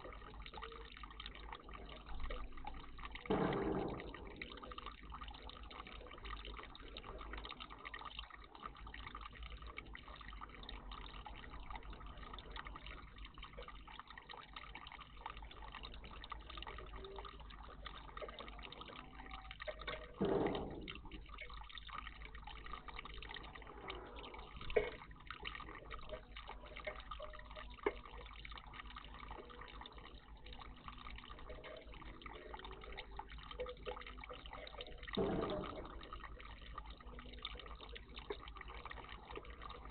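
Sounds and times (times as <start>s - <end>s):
water splashes: 0.0s - 39.9s
water trickling and dripping: 0.0s - 39.9s.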